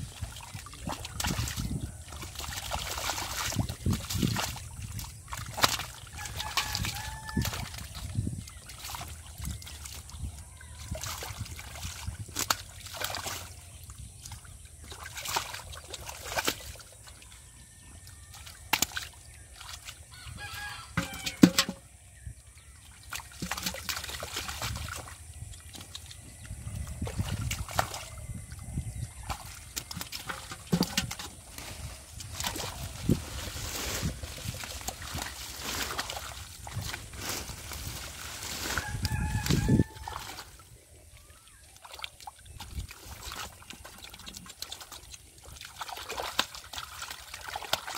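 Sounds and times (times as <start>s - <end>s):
hands splashing in muddy water: 0.0s - 47.9s.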